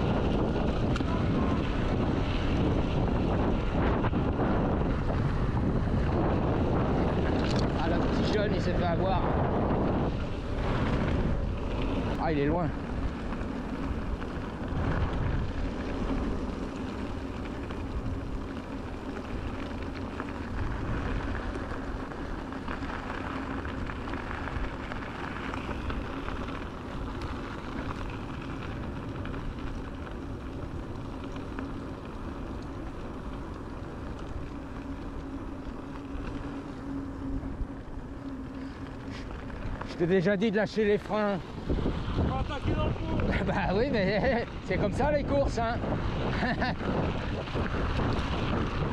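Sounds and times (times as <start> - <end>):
low motor hum: 0.0 - 48.9
tyres crunching on gravel: 0.0 - 48.9
wind buffeting microphone: 0.0 - 48.9.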